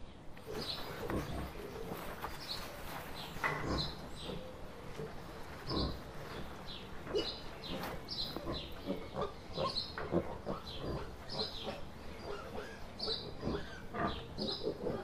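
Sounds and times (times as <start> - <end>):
wild boar snuffling: 0.4 - 15.0.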